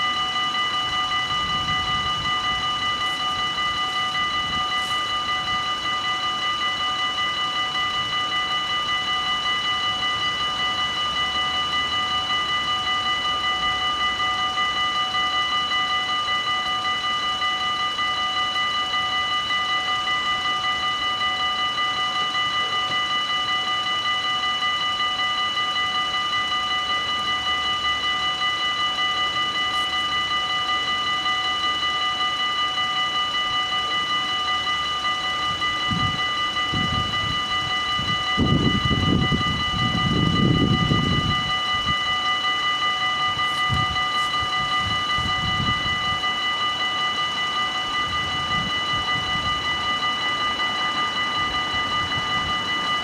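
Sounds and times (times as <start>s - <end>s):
level-crossing bells ringing: 0.0s - 53.0s.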